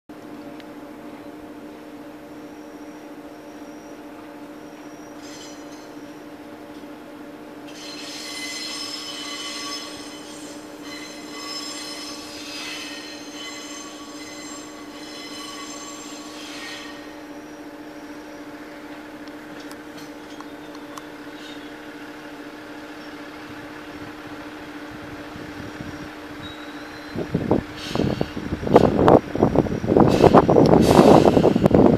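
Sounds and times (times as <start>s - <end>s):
diesel railcar engine hum: 0.1s - 31.9s
wheels squealing on rails: 2.2s - 6.5s, 7.6s - 31.9s.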